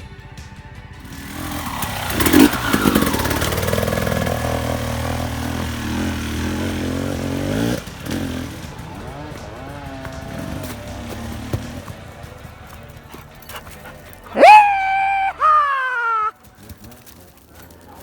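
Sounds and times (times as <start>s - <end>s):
dirt bike passing by: 1.0s - 18.0s.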